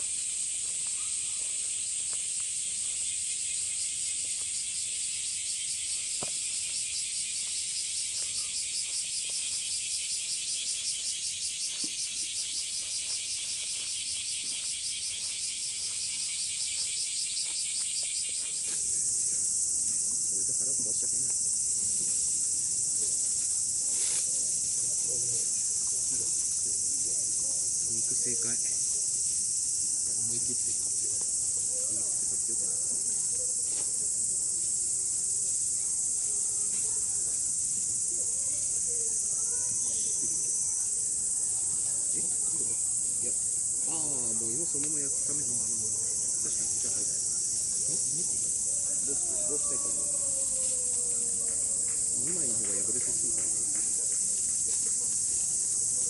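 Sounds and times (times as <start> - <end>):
high insect trill: 0.0 - 56.0
insect chorus chirring: 0.0 - 56.0.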